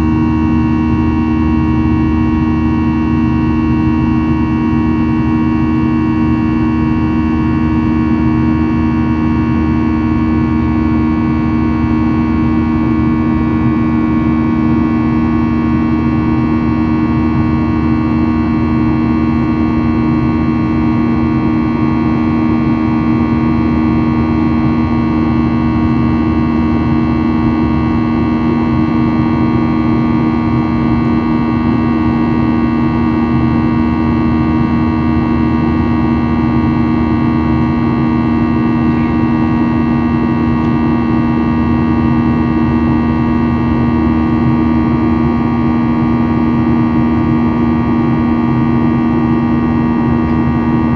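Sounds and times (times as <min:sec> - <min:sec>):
jet engine and airflow noise: 0:00.0 - 0:50.9.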